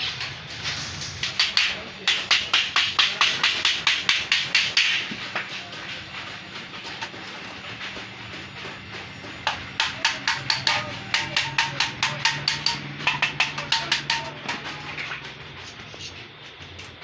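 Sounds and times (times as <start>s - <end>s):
hammer striking sheet metal: 0.0s - 15.5s.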